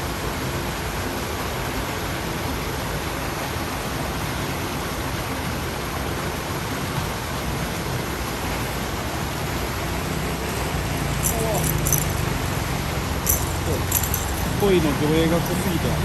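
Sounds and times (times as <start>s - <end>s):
water rushing into river: 0.0s - 16.0s.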